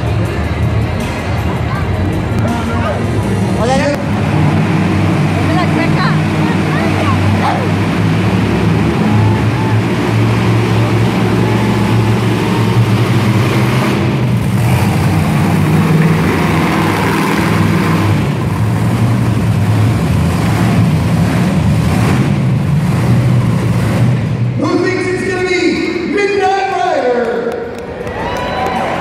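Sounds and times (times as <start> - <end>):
monster truck engine running: 0.0 - 26.2.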